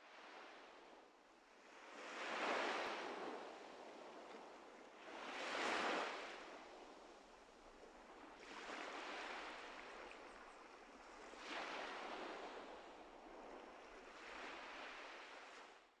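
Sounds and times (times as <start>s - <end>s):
waves breaking on a beach: 0.0s - 15.9s.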